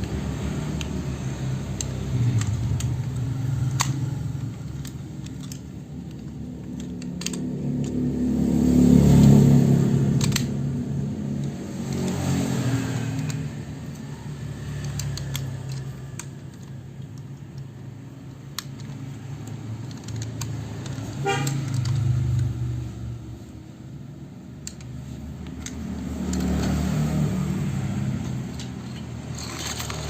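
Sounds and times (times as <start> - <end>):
sharp clicks: 0.0 - 8.0, 10.0 - 10.8, 11.4 - 23.5, 24.5 - 30.0.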